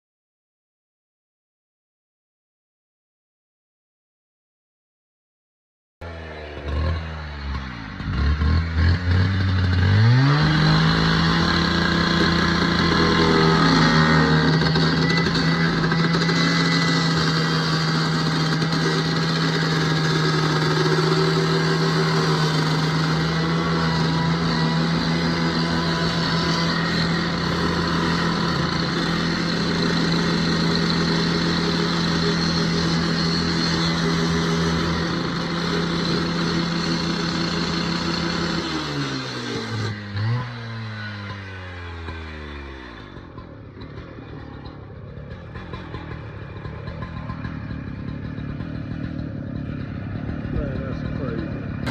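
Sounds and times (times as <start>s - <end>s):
engine running and revving: 6.0s - 51.9s.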